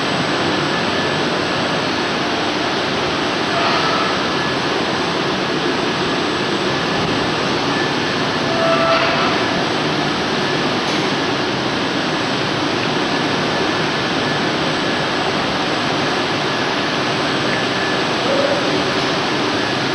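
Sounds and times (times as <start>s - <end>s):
factory machinery rushing: 0.0s - 19.9s.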